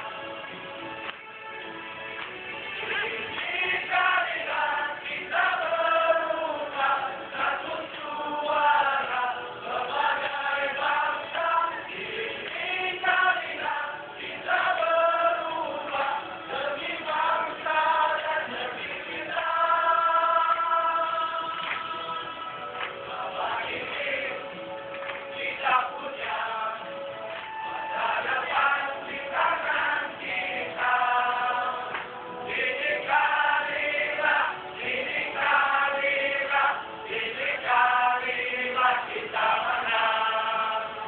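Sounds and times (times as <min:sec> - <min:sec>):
campaign song over loudspeakers: 0:00.0 - 0:41.0
voices singing in chorus: 0:02.6 - 0:41.0.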